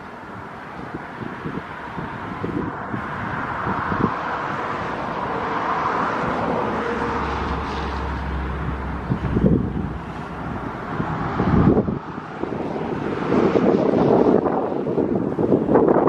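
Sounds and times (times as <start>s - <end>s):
passing vehicle rumble: 0.0s - 16.0s
wind buffeting microphone: 0.0s - 16.0s.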